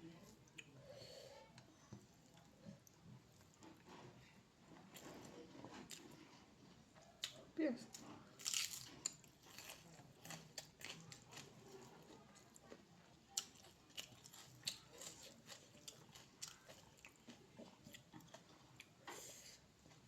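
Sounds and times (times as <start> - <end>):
person chewing food: 1.9 - 20.0.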